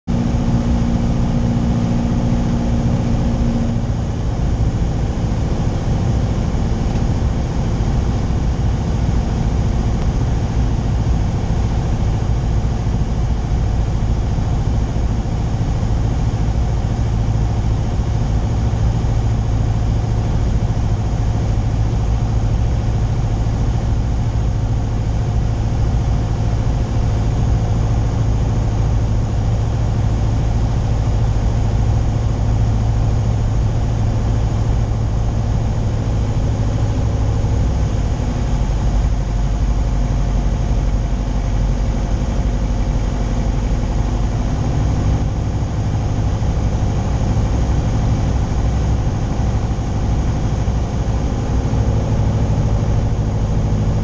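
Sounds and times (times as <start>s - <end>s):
airflow around cabin: 0.1s - 54.0s
plane engine and propeller droning: 0.1s - 54.0s.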